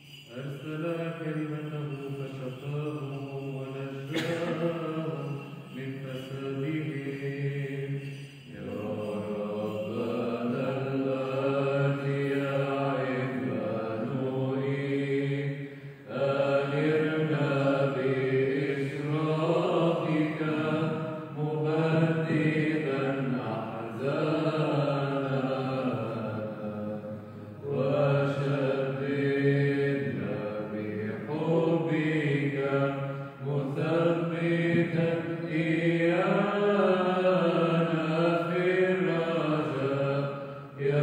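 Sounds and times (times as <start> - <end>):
chant with low held drone: 0.0 - 41.0.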